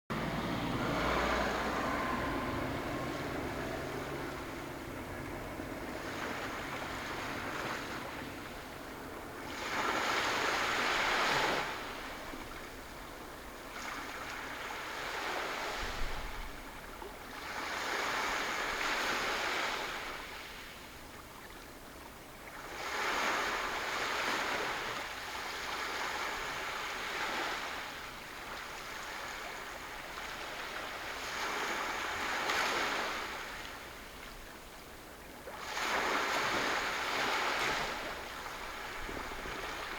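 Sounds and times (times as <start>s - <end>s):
sea waves washing on shore: 0.1s - 39.9s.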